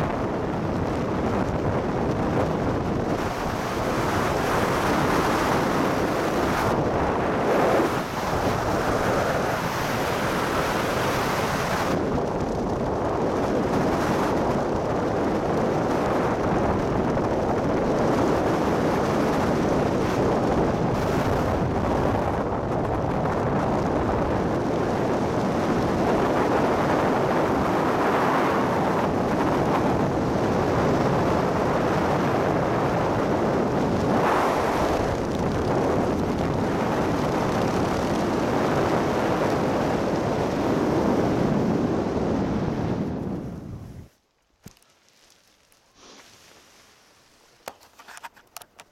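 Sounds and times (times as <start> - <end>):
wind rushing over microphone: 0.0 - 44.2.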